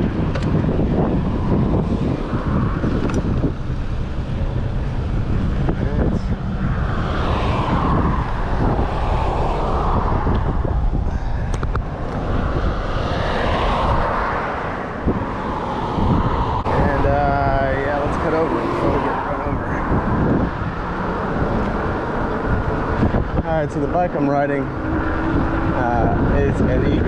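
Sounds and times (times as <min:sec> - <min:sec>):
cars passing: 0:00.0 - 0:27.0
wind buffeting microphone: 0:00.0 - 0:27.0.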